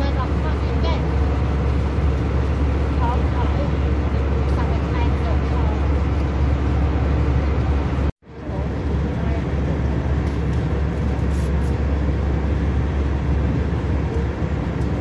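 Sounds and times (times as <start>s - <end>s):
jet engine drone: 0.0s - 15.0s.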